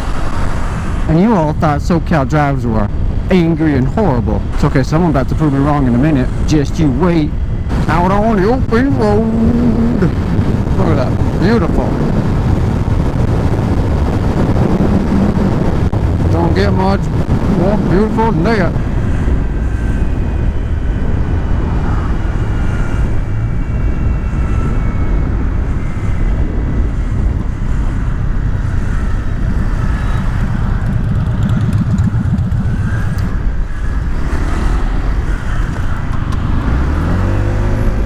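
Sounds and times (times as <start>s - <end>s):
wind and road noise: 0.0s - 38.0s
motorcycle engine running: 7.4s - 38.0s.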